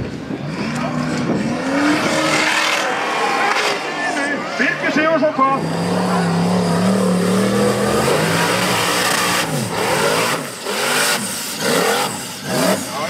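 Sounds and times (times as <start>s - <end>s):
buggy engine revving: 0.0s - 13.0s.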